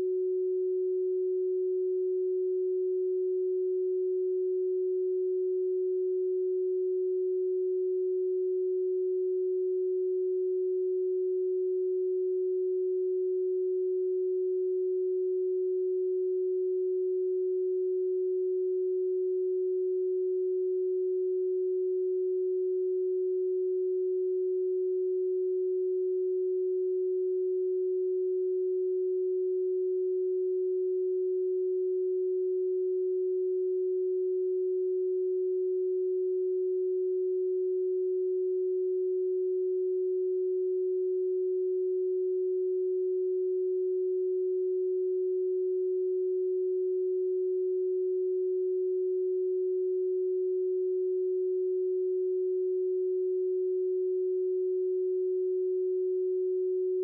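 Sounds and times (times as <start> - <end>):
electronic sine tone: 0.0 - 57.0.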